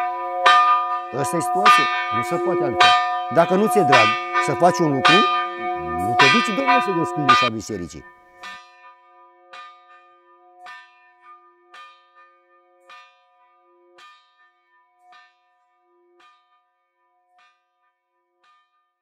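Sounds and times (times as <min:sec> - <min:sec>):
church bell ringing: 0:00.0 - 0:15.5.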